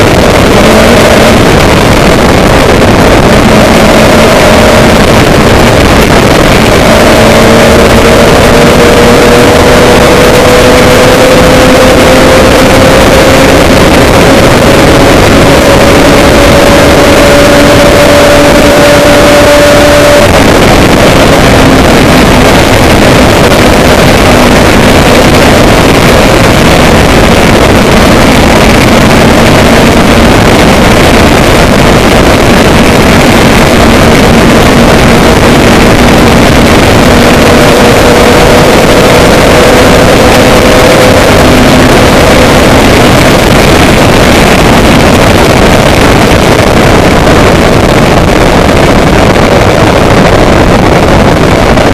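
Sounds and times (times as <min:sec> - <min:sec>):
loud engine noise: 0:00.0 - 0:51.9
low drifting hum: 0:00.0 - 0:51.9
wind buffeting microphone: 0:00.0 - 0:51.9.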